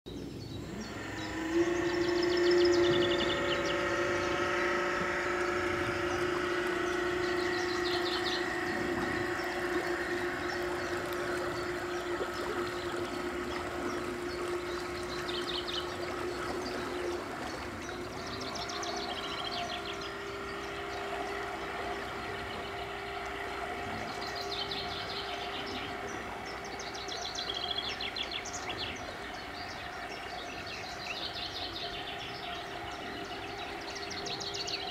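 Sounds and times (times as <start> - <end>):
birds chirping: 0.1 - 34.9
electric outboard motor whine: 0.1 - 34.9.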